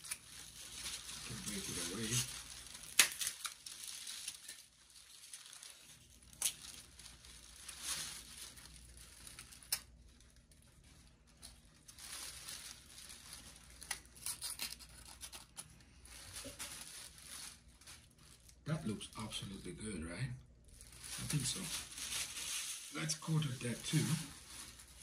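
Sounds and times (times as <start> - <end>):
rustling and crinkling material: 0.0 - 19.9, 20.6 - 25.0.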